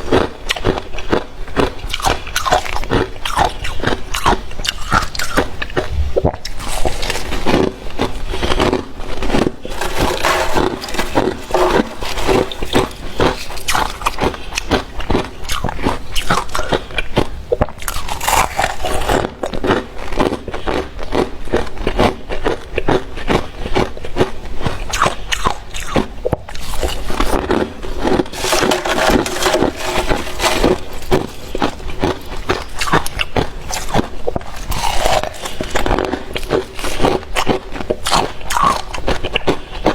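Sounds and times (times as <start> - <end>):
frost being crunched and chewed: 0.4 - 20.4, 24.8 - 39.6.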